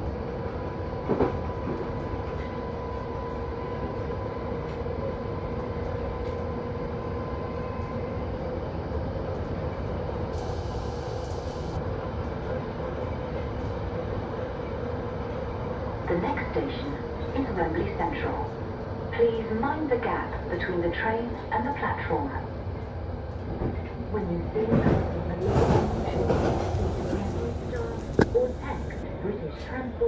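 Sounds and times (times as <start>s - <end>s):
train rumble with whining tone: 0.0s - 30.0s.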